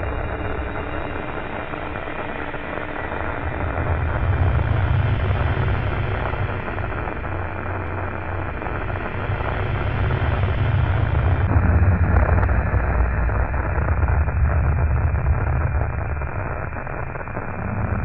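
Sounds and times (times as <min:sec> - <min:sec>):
deep hum: 0:00.0 - 0:18.0
static-like noise: 0:00.0 - 0:18.0.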